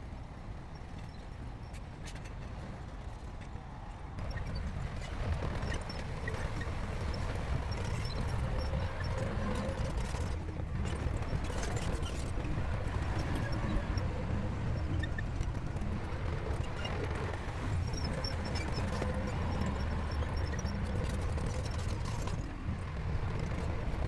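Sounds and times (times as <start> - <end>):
bulldozer diesel engine running: 4.2 - 24.0.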